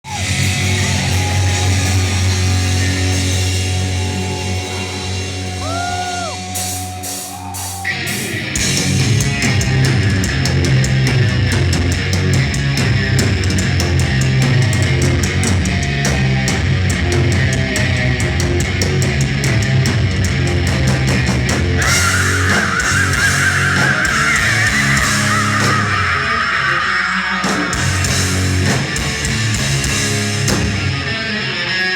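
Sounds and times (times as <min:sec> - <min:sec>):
driving drums with cymbals: 0:00.0 - 0:31.1
bass guitar: 0:00.0 - 0:31.9
distorted guitars: 0:00.0 - 0:31.9
high lead guitar line: 0:00.0 - 0:31.9.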